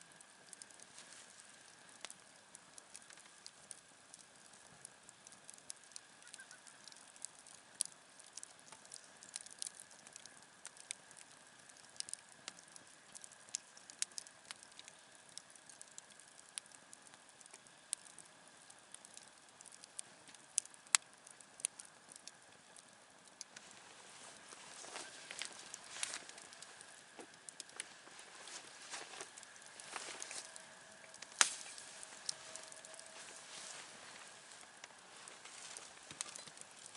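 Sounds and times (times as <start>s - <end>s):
campfire crackling: 0.0s - 36.9s
faint hiss: 0.0s - 36.9s.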